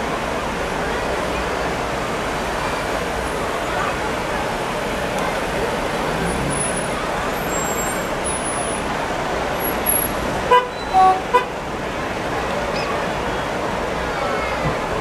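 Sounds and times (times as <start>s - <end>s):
murmur of outdoor crowd: 0.0s - 15.0s.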